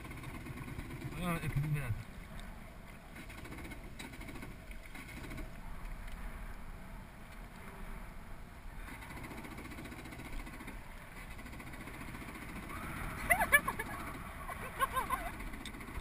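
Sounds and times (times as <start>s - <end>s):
jet ski engine rumble: 0.0s - 16.0s.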